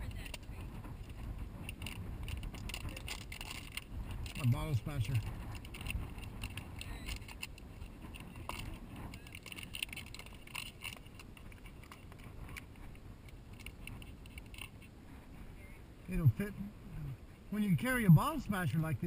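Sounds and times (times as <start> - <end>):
light clinks and rattles of gear: 0.0 - 16.4
low steady rumble: 0.0 - 19.0.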